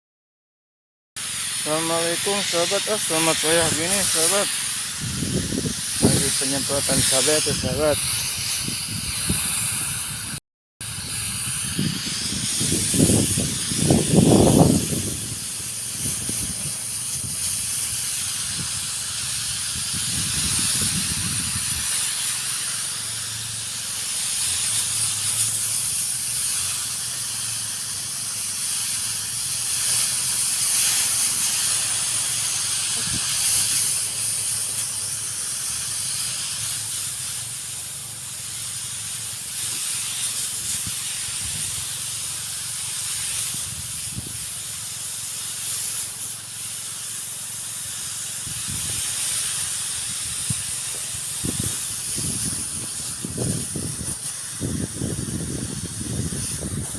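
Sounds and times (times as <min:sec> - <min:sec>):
power sprayer nozzle hissing: 0:01.2 - 0:56.9.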